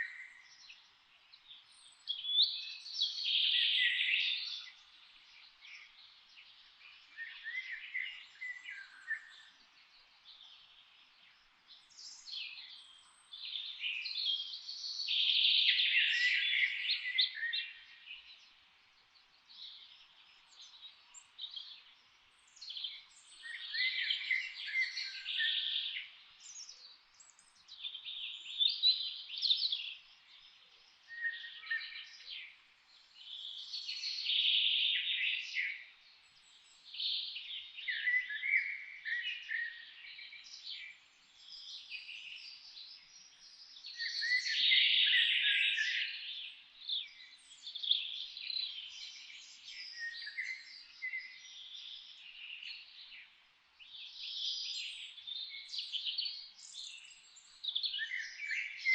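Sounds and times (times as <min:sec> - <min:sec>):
songbirds singing and chirping: 0:00.0 - 0:58.9.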